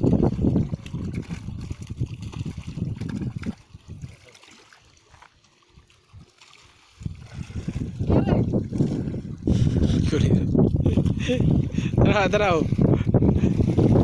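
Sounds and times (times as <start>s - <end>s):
wind rumble on microphone: 0.0s - 4.3s, 6.9s - 14.0s
water sloshing and splashing: 0.0s - 14.0s.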